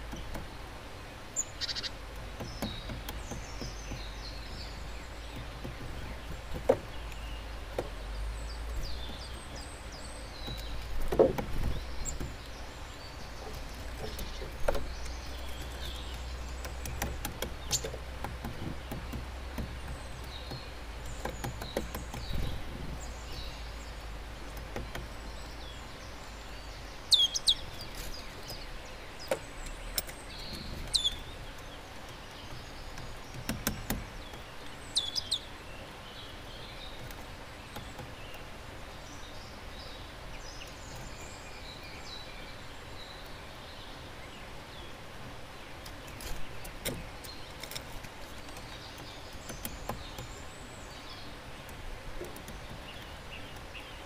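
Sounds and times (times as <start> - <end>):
birds twittering: 0.0 - 54.0
outdoor background noise: 0.0 - 54.0.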